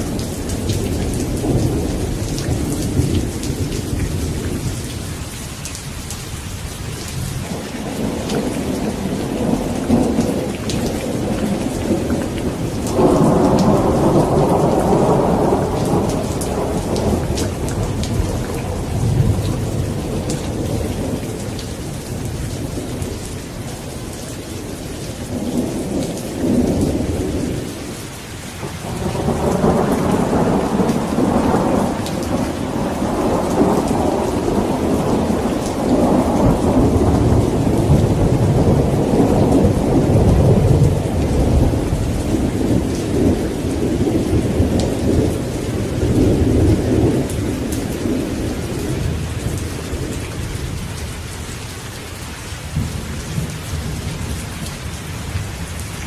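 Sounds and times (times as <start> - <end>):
rolling thunder: 0.0 - 5.0, 7.3 - 28.0, 28.6 - 51.0
rain hissing: 0.0 - 56.0.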